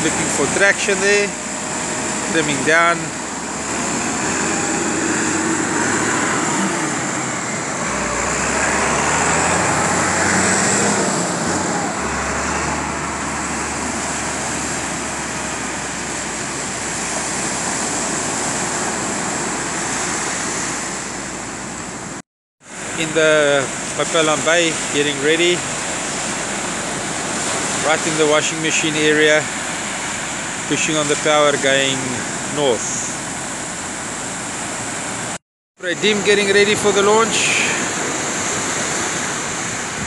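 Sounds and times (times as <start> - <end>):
deep rumble of surf: 0.0 - 40.0
surf breaking on beach: 0.0 - 40.0.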